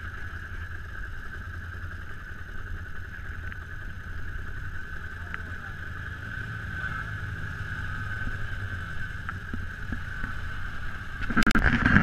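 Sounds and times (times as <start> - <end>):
atv engines idling: 0.0 - 12.0.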